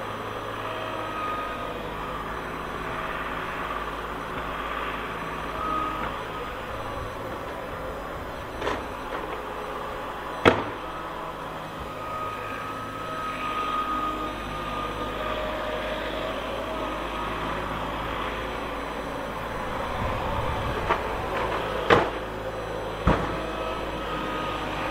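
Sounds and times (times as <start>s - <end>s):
heavy vehicle engine running: 0.0s - 24.9s.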